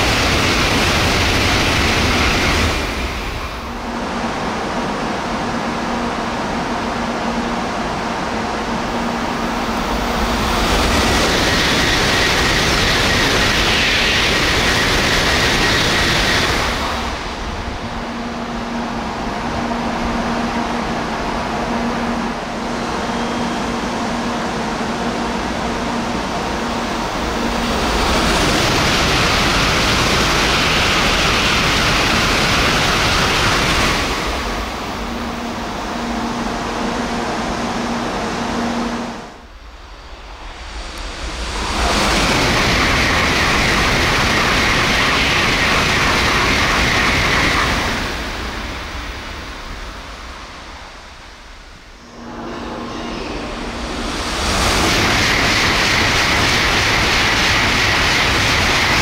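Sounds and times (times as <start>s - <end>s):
high-speed train rushing past: 0.0s - 59.0s.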